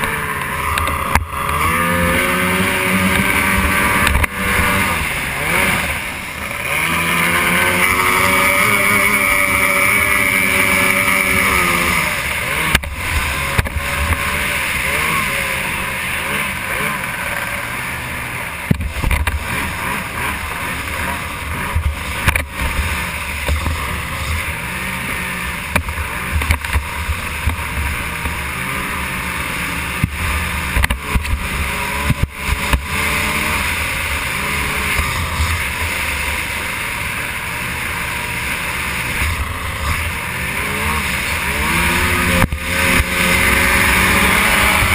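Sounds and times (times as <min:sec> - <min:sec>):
racing outboard motor: 0:00.0 - 0:44.9
rushing water: 0:00.0 - 0:44.9
wind: 0:00.0 - 0:44.9.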